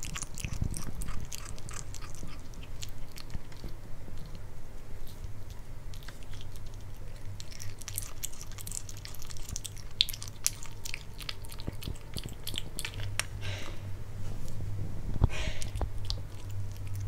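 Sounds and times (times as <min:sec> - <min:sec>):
kitten chewing meat: 0:00.0 - 0:17.0.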